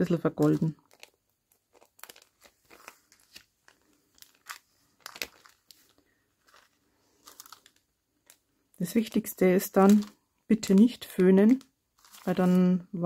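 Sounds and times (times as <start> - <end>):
cellophane bag crinkling: 0.0 - 12.9.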